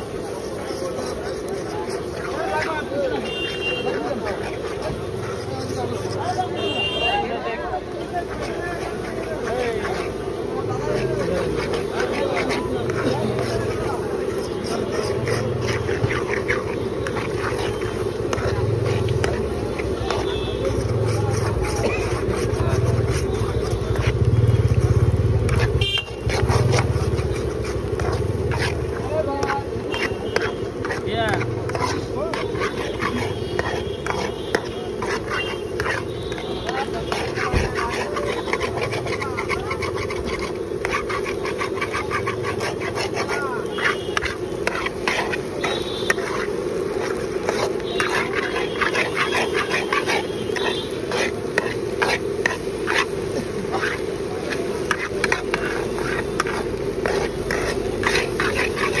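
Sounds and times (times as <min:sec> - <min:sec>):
metal spatula scraping a steel pan: 0:00.0 - 0:07.2, 0:08.0 - 0:59.0
street noise hum: 0:00.0 - 0:59.0.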